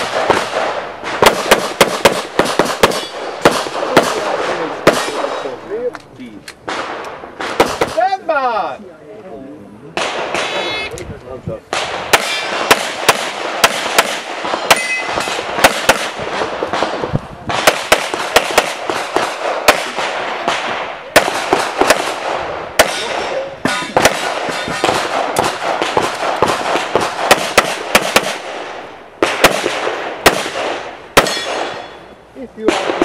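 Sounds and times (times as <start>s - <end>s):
rapid pistol shots: 0.0s - 5.5s, 6.7s - 8.1s, 10.0s - 10.7s, 11.7s - 32.0s, 32.6s - 33.0s.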